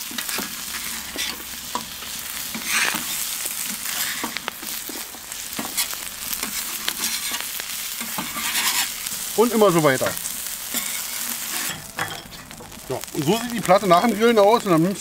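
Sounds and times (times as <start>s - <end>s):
food sizzling in fat: 0.0s - 15.0s.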